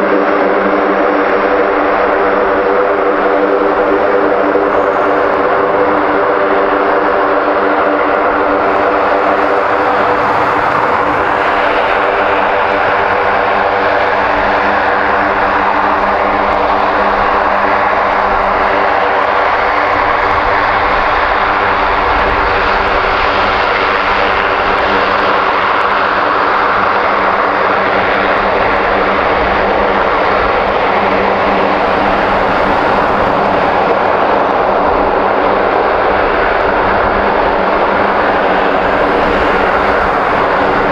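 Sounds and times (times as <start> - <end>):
propeller engines droning: 0.0 - 40.9.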